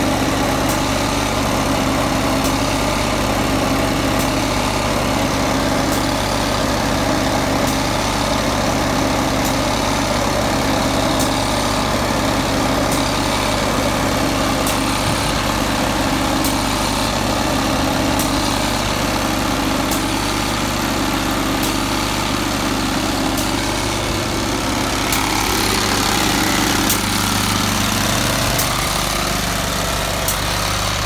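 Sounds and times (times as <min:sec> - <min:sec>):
petrol engine running: 0:00.0 - 0:31.0.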